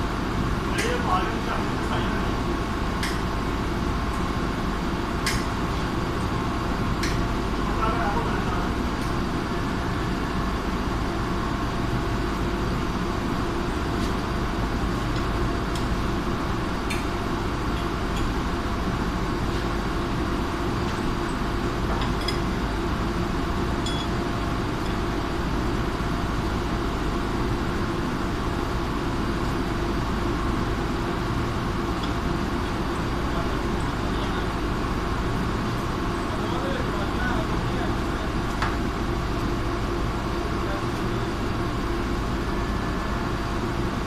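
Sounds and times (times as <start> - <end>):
machinery drone with steady tones: 0.0 - 44.0.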